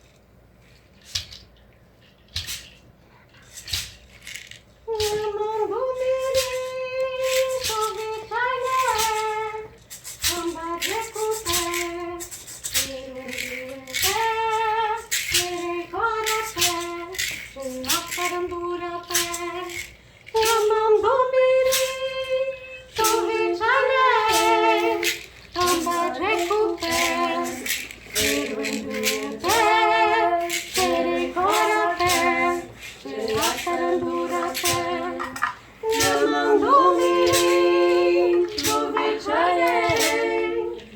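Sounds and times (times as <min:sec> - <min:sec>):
woman singing with vibrato: 0:04.8 - 0:40.9
sharp percussive clicks: 0:06.0 - 0:40.9.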